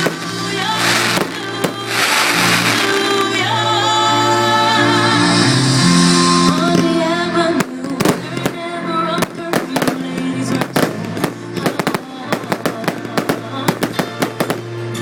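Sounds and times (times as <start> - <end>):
fireworks bangs: 0.0 - 3.6, 6.4 - 15.0
music with held melody: 0.0 - 15.0.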